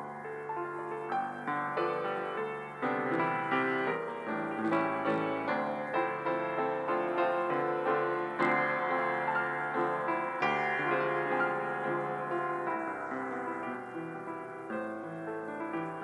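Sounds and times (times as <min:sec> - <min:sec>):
solo piano playing slowly: 0:00.0 - 0:16.0.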